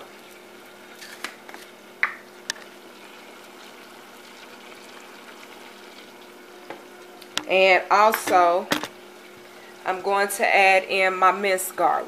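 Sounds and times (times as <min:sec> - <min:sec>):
butter sizzling in a saucepan: 0:00.0 - 0:10.4.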